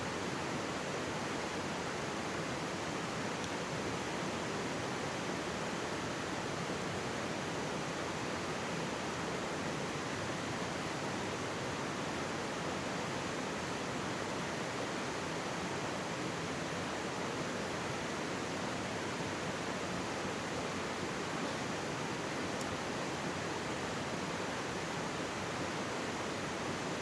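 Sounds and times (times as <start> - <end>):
stream rushing and babbling: 0.0 - 27.0.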